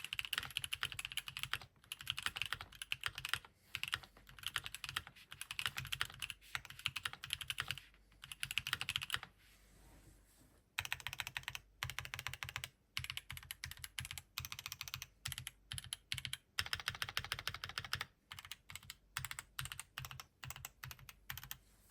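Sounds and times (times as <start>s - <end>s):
mechanical keyboard typing: 0.0s - 9.3s, 10.8s - 21.6s.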